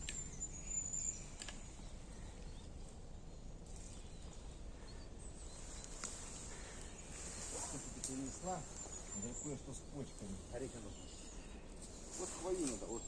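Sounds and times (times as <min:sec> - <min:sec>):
forest background hiss: 0:00.0 - 0:13.0.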